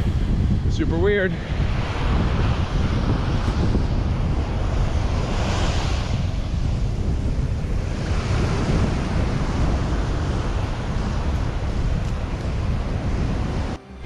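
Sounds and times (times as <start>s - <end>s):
surf washing onto sand: 0.0s - 13.9s
wind buffeting the microphone: 0.0s - 14.0s.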